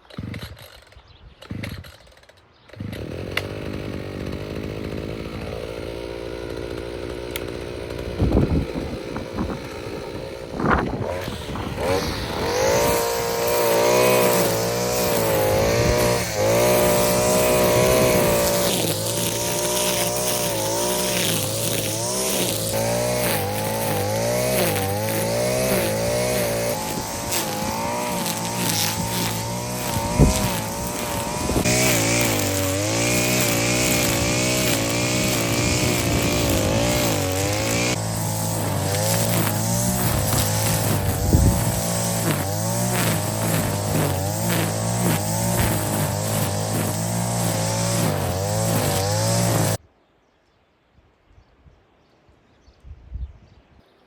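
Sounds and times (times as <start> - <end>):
string trimmer engine cutting grass: 0.0 - 49.8.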